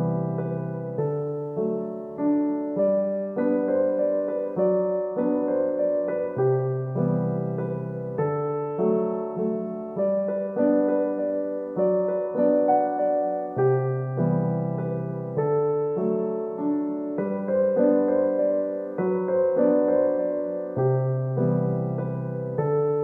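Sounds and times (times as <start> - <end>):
piano piece: 0.0 - 23.0.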